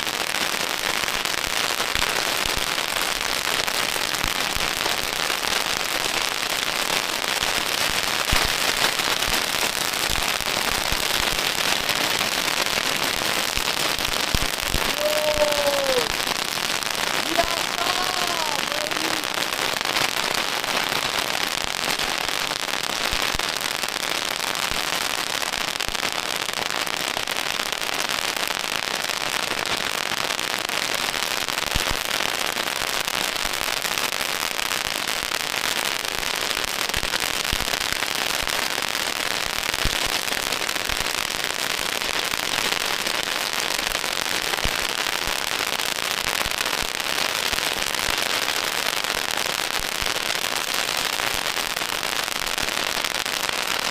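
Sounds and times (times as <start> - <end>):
firecrackers crackling: 0.0 - 53.9.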